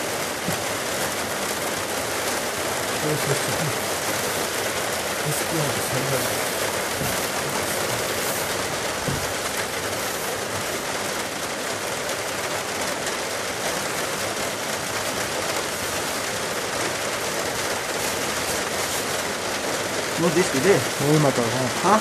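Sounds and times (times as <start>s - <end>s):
debris flow rushing down gully: 0.0s - 22.0s
heavy rain: 0.0s - 22.0s.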